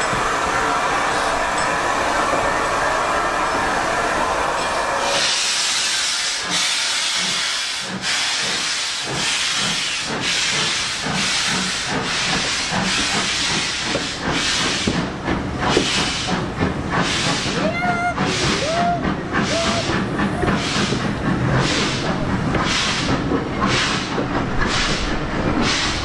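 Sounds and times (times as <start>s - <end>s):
steam hissing from locomotive: 0.0s - 26.0s
steam locomotive beat: 0.0s - 26.0s.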